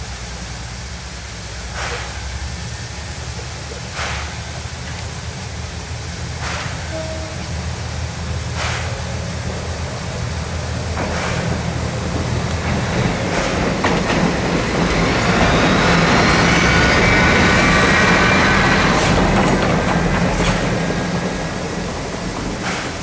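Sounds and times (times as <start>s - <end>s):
diesel railcar engine: 0.0s - 23.0s
train wheels on rails: 0.0s - 23.0s
wheels squealing on rails: 1.9s - 23.0s.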